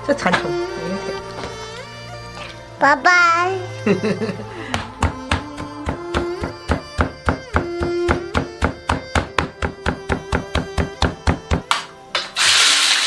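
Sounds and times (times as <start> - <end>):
background music with held notes: 0.0 - 13.0.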